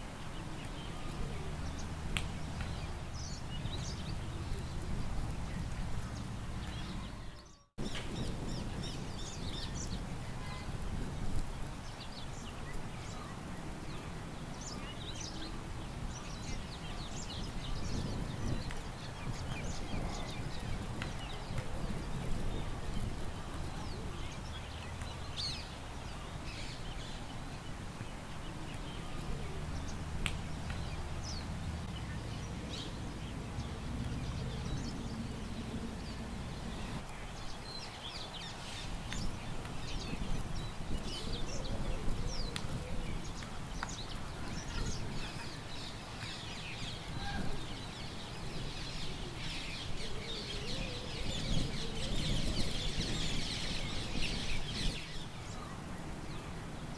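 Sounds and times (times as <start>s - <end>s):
low wind rumble: 0.0s - 56.9s
birds chirping: 0.2s - 10.8s, 11.8s - 56.9s.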